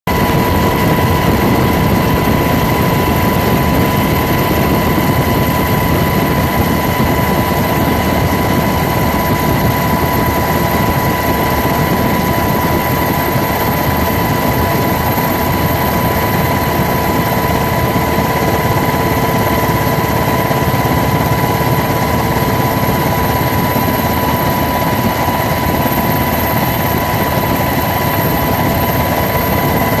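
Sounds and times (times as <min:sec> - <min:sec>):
helicopter engine and rotor noise: 0:00.0 - 0:30.0.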